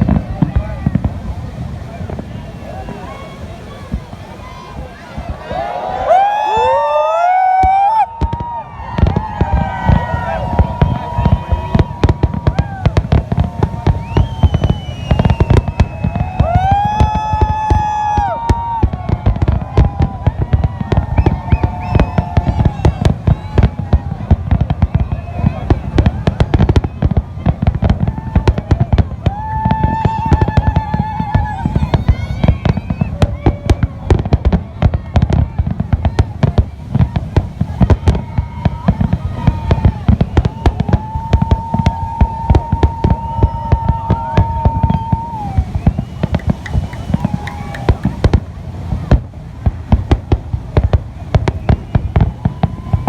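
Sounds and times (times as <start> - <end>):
fireworks crackling and banging: 0.0 - 53.0
whistling fireworks: 0.0 - 53.0.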